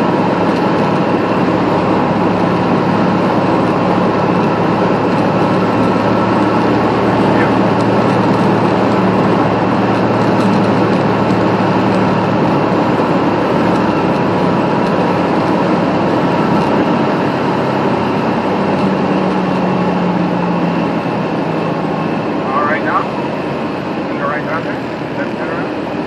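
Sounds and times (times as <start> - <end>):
aircraft engine and propeller droning: 0.0 - 26.0.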